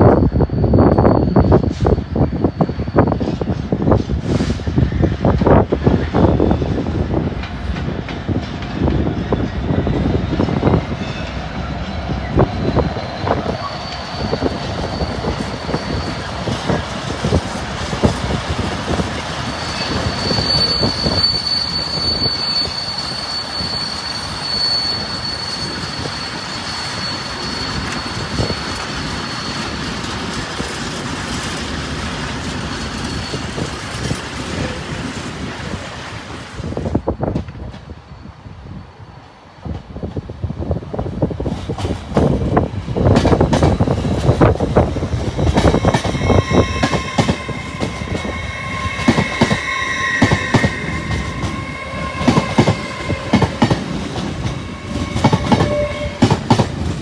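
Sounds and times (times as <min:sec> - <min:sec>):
high steady squeal: 0:00.0 - 0:07.2, 0:08.8 - 0:30.9, 0:32.3 - 0:34.8, 0:42.3 - 0:57.0
train wheels clattering on track: 0:00.0 - 0:38.0, 0:39.6 - 0:57.0.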